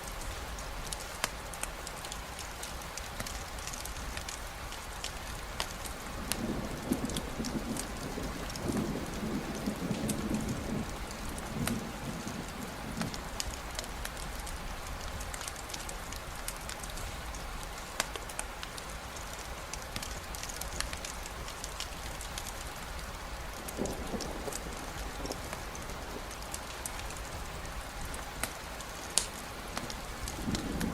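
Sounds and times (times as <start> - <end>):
rain drop ticks: 0.0 - 30.9
steady rain falling: 0.0 - 30.9.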